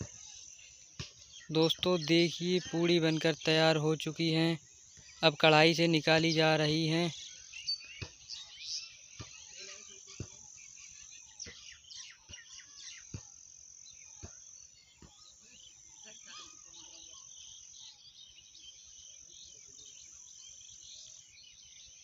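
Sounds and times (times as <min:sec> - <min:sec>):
crickets chirring: 0:00.1 - 0:21.9.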